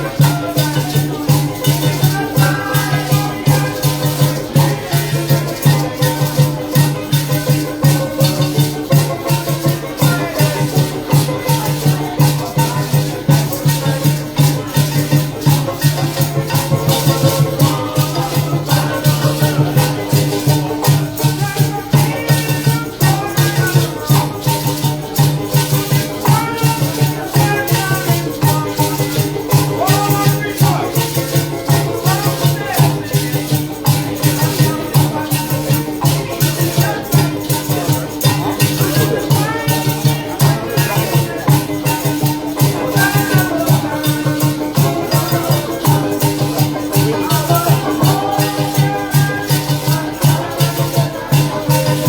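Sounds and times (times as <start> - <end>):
maraca shaker rhythm: 0.0 - 52.0.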